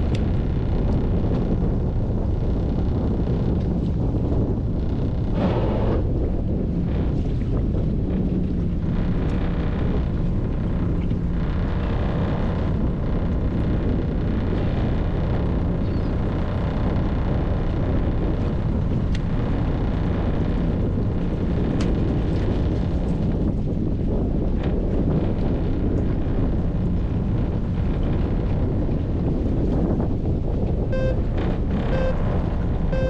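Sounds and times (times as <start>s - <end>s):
boat engine humming: 0.0s - 33.0s
wind buffeting microphone: 0.0s - 33.0s.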